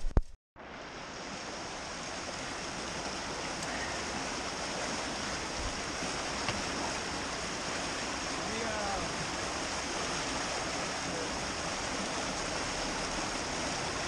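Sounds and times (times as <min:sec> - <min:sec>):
river rapids rushing: 0:00.7 - 0:14.0.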